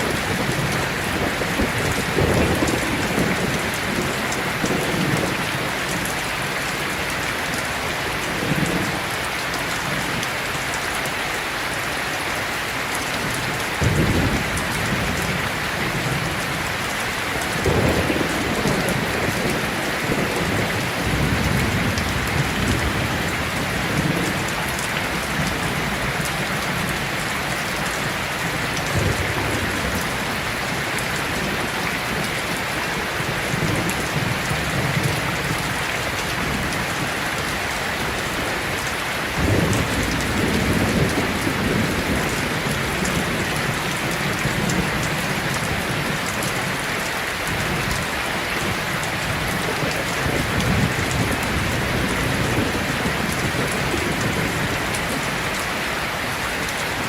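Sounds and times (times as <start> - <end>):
thunder rumbling: 0.0 - 6.5, 13.2 - 37.4, 39.3 - 55.6
heavy rain falling: 0.0 - 57.0.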